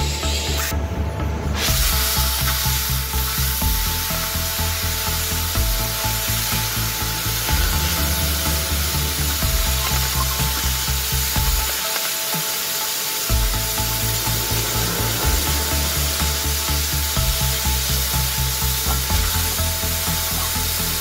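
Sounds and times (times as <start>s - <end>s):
cutting torch hissing: 0.0s - 0.8s, 1.5s - 21.0s
background music with bass line: 0.0s - 21.0s.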